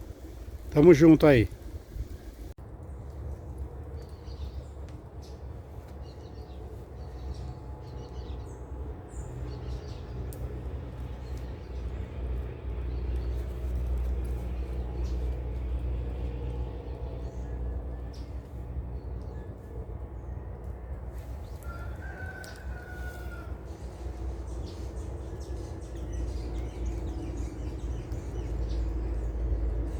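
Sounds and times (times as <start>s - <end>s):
distant motor rumble: 0.0s - 29.9s.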